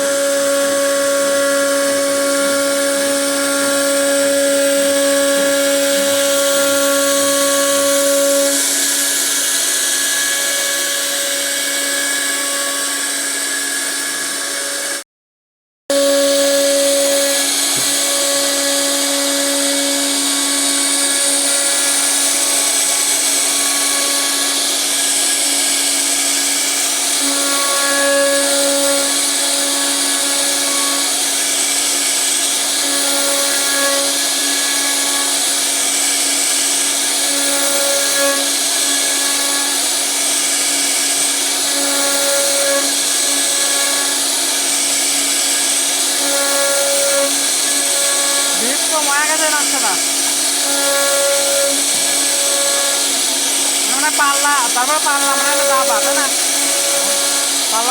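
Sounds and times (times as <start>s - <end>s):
router spindle cutting wood: 0.0s - 15.0s, 15.9s - 57.9s.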